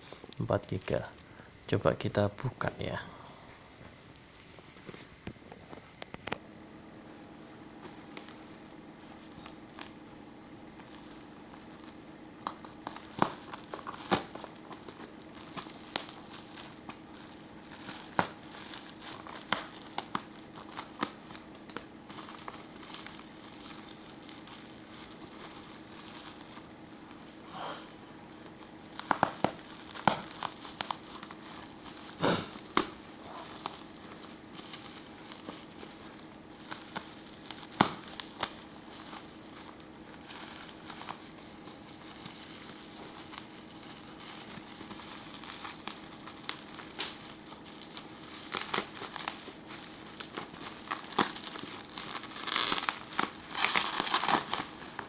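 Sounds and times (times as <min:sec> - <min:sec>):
plastic packaging crinkling: 0:00.0 - 0:01.8, 0:07.2 - 0:55.0.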